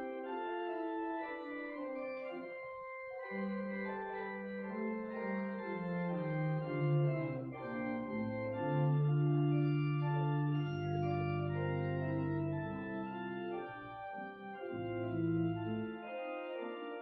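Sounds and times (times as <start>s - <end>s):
church organ playing chords: 0.0s - 17.0s.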